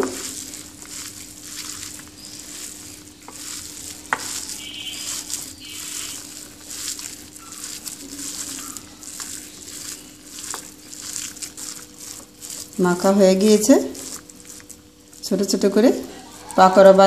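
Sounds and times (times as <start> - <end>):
faint steady hum: 0.0 - 17.0
hand squishing food mixture: 0.0 - 17.0.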